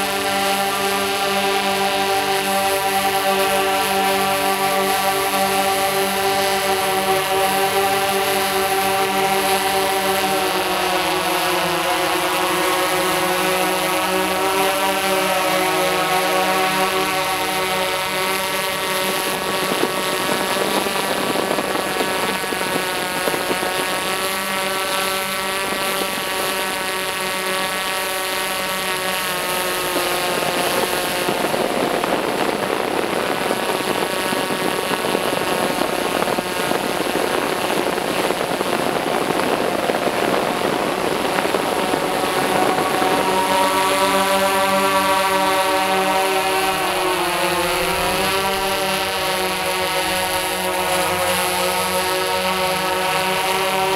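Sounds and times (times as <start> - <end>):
multirotor drone buzzing: 0.0 - 53.9.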